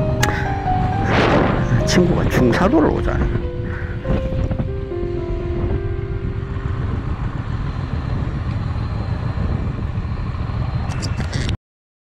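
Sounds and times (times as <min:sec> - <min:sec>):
motorcycle engine: 0:00.0 - 0:11.1
wind rumble: 0:00.0 - 0:11.6.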